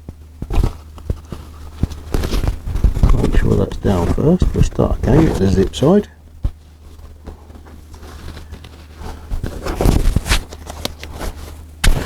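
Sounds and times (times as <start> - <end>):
canvas rustling and scraping: 0.0 - 12.0
steady low hum: 0.0 - 12.0.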